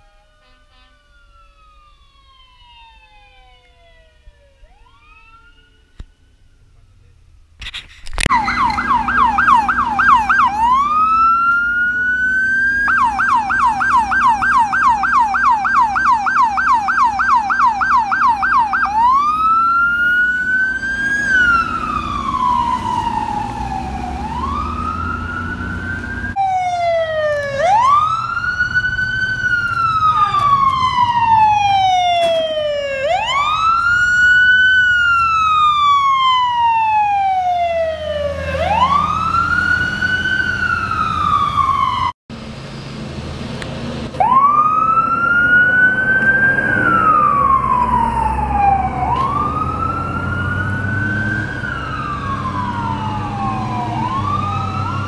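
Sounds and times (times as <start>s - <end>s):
siren wailing: 0.0s - 7.1s, 8.3s - 42.2s, 44.2s - 55.0s
siren yelping: 0.0s - 7.1s, 8.3s - 42.2s, 44.2s - 55.0s.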